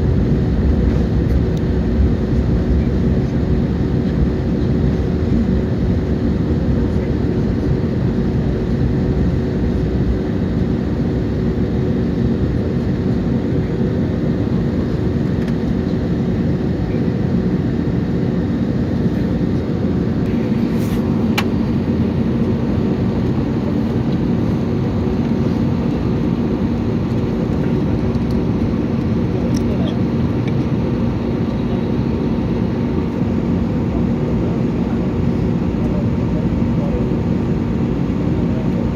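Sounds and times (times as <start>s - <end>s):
airliner cabin roar: 0.0s - 38.9s.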